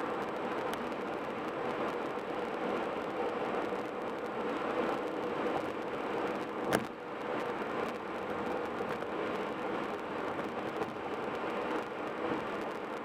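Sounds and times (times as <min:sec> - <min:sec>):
car tyre and road noise: 0:00.0 - 0:13.0.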